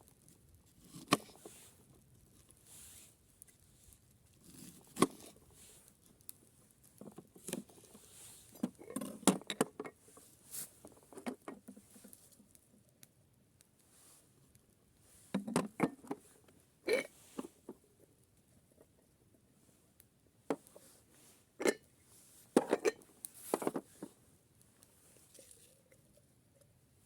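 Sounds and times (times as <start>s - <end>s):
rustling: 0.2s - 12.7s, 13.8s - 26.2s.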